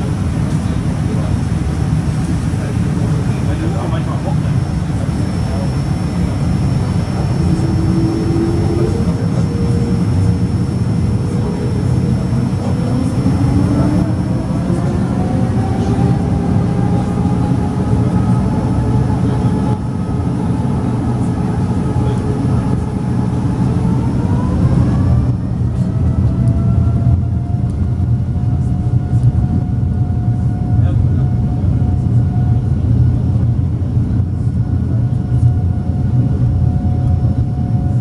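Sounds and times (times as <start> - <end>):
jet engine whine: 0.0 - 38.0
low cabin rumble: 0.0 - 38.0.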